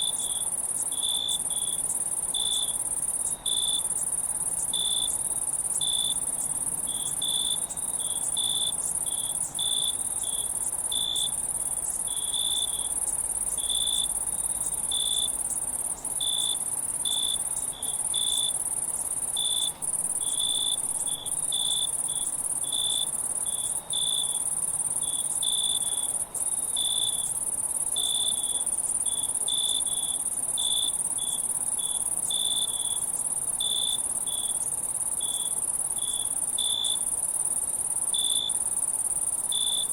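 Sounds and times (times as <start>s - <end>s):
insect chirps: 0.0s - 39.9s
insects trilling: 0.0s - 39.9s.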